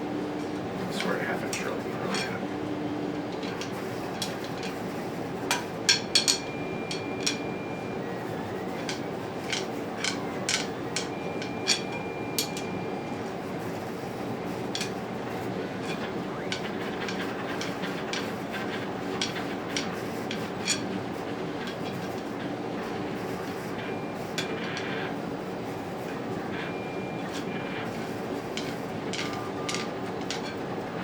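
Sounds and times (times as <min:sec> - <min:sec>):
three d printer humming: 0:00.0 - 0:31.0.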